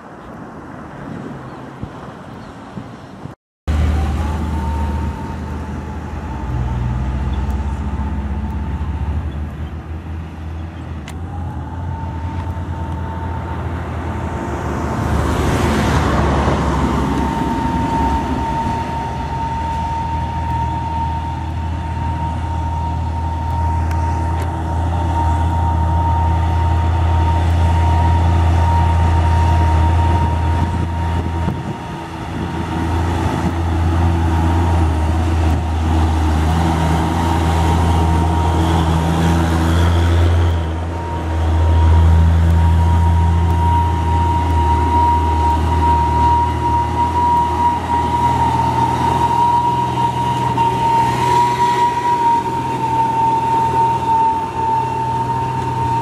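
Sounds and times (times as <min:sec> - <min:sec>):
diesel truck engines droning: 0:00.0 - 0:56.0
truck passing close: 0:00.0 - 0:56.0
high whine of climbing trucks: 0:03.2 - 0:56.0.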